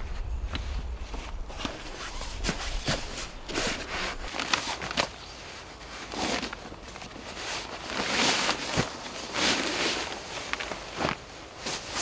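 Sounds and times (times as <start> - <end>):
fabric rustling and scuffing: 0.5 - 12.0.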